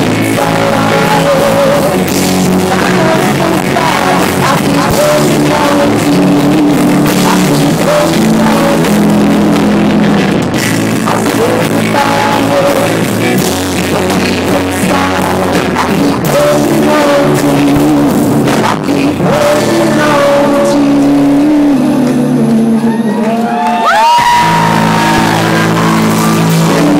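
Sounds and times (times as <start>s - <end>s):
live rock band playing loudly: 0.0s - 26.9s.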